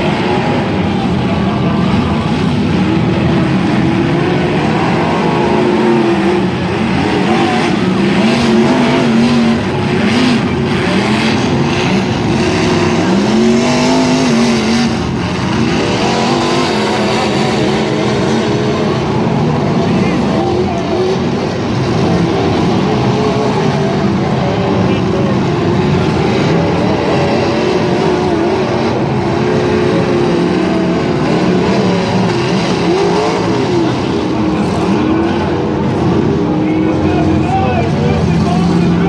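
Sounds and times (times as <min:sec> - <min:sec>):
truck engines revving: 0:00.0 - 0:39.0.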